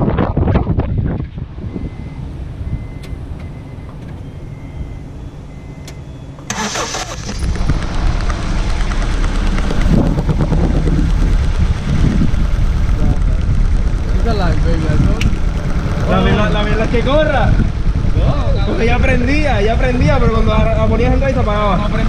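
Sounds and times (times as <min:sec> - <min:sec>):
car engine starting and running: 0:01.1 - 0:22.0.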